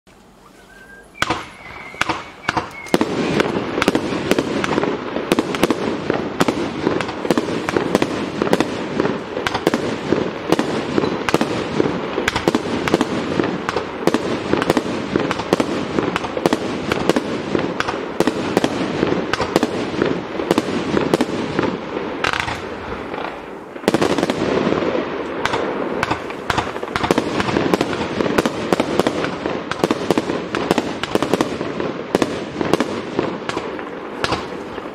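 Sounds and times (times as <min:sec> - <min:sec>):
fireworks barrage: 0:00.6 - 0:34.9.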